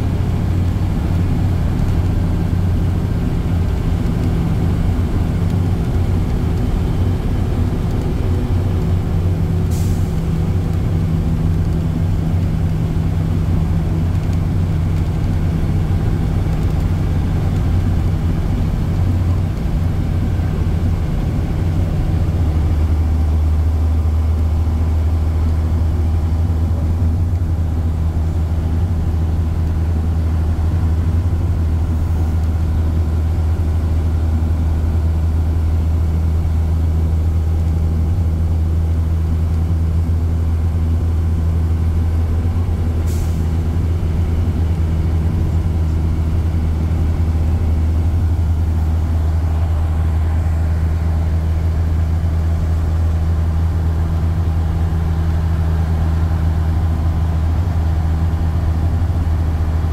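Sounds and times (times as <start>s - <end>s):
bus engine drone: 0.0s - 59.9s.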